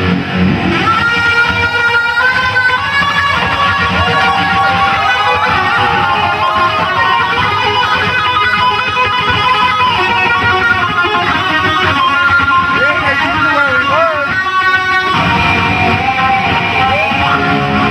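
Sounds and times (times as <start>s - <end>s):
backing band music: 0.0s - 17.9s
lead electric guitar with vibrato: 0.0s - 17.9s.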